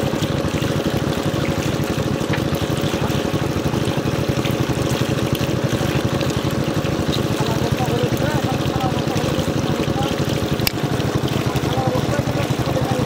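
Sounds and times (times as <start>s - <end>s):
water gushing from hose: 0.0s - 13.0s
water pump engine throbbing: 0.0s - 13.0s.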